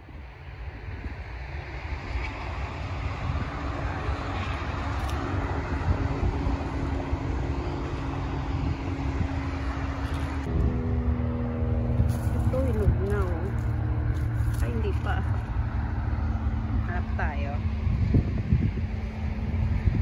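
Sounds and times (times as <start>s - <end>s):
vehicle engine drone: 0.0s - 20.0s
wind rumbling on microphone: 0.0s - 20.0s.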